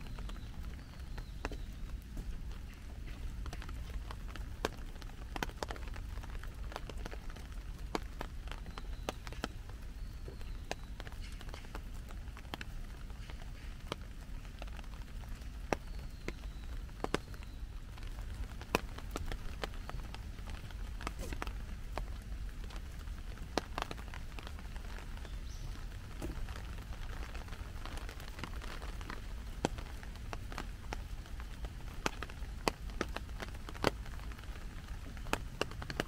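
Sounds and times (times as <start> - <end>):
raindrops tapping on an umbrella: 0.0 - 36.0
steady rain: 0.0 - 36.0.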